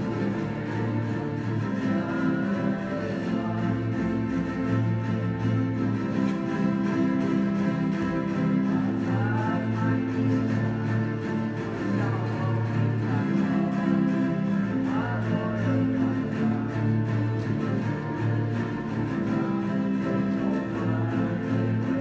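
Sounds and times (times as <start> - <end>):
acoustic guitar ensemble playing: 0.0 - 22.0.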